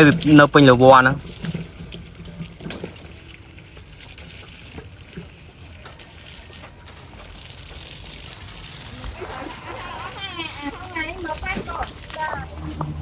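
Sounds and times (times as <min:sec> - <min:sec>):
faint running water: 0:00.0 - 0:13.0.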